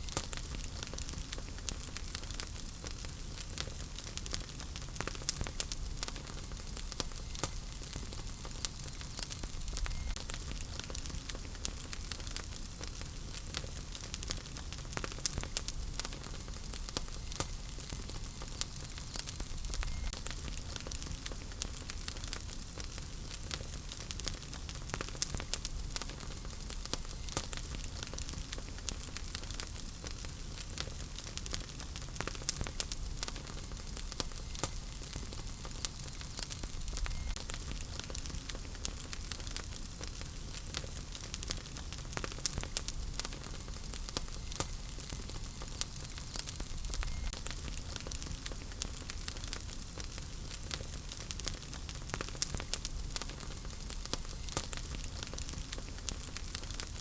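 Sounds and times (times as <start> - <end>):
fire crackling and popping: 0.0 - 57.0
fire rumbling and hissing: 0.0 - 57.0.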